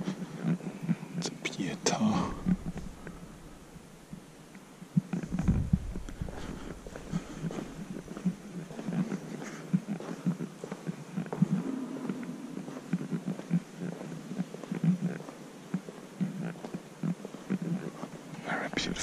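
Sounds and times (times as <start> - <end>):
muffled walking footsteps: 0.0 - 19.0.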